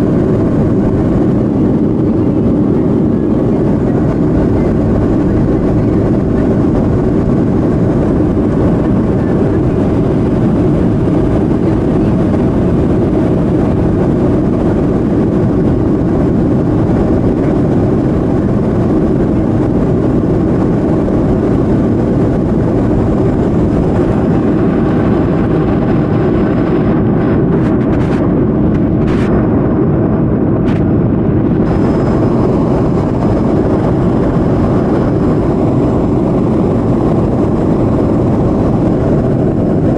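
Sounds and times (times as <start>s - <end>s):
jet engines and airflow: 0.0s - 39.9s.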